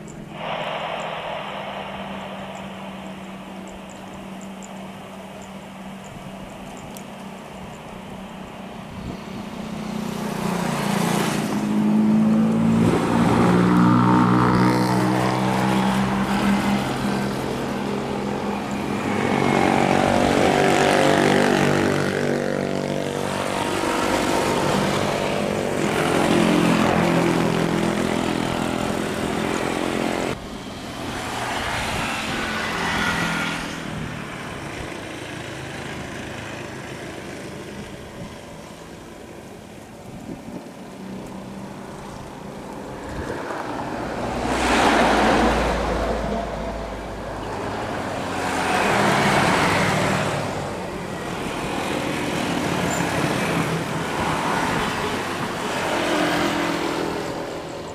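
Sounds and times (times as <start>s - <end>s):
jet engine roar: 0.0s - 57.9s.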